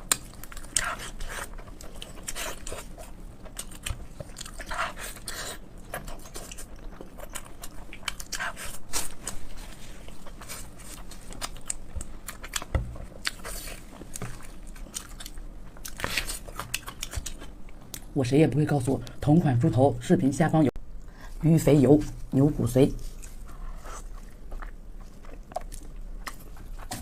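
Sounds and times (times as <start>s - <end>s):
person chewing: 0.0s - 18.1s, 23.0s - 27.0s.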